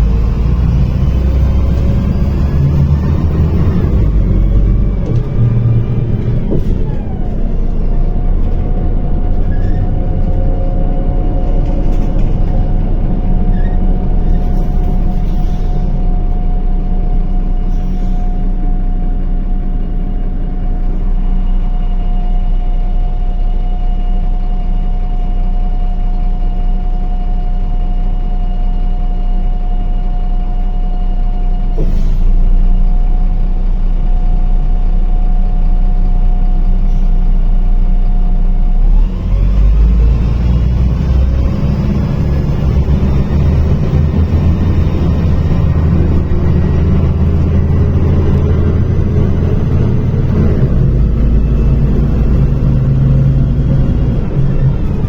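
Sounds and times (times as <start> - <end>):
bus engine hum with whine: 0.0 - 55.0.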